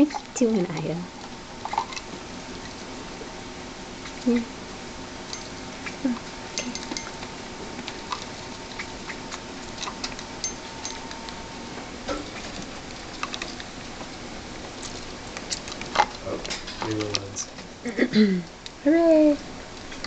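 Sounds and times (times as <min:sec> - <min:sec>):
rats clicking and scratching: 0:00.0 - 0:03.3, 0:04.0 - 0:04.5, 0:05.2 - 0:17.7, 0:18.5 - 0:20.0
faint steady hum: 0:00.0 - 0:20.0.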